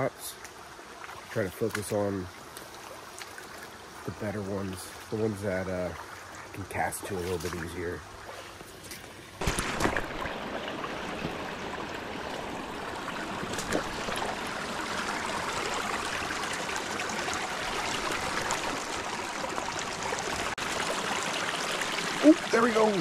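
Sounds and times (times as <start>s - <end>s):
stream over stones: 0.0s - 23.0s.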